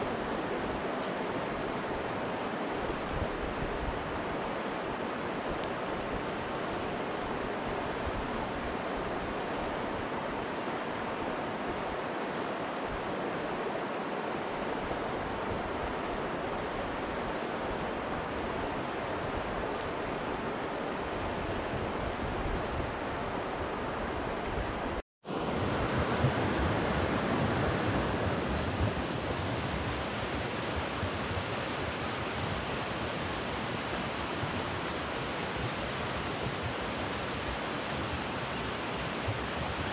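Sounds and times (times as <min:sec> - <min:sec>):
rushing outdoor noise: 0:00.0 - 0:39.9.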